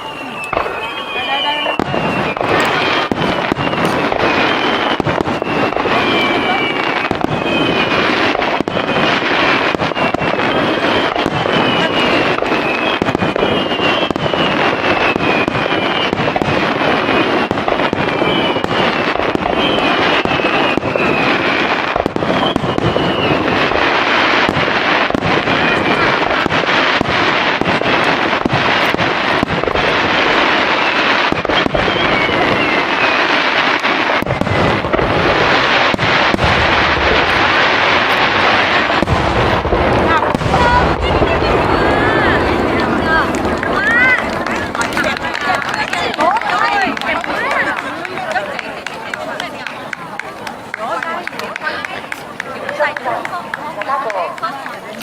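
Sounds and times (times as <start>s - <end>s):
falling firework whistles: 0.0s - 48.9s
deep firework booms: 0.1s - 49.5s
fireworks shell bursts and crackle: 0.4s - 52.5s.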